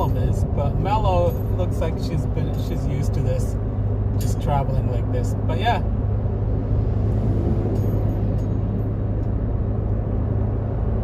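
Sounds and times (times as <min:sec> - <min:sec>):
car engine drone: 0:00.0 - 0:11.0.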